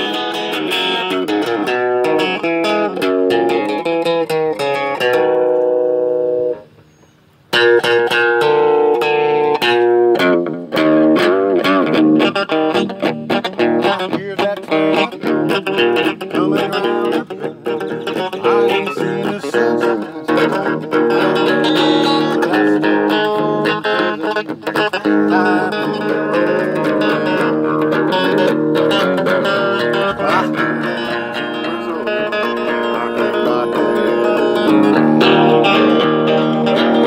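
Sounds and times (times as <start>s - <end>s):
electric guitar through amp: 0.0s - 6.8s, 7.5s - 37.0s.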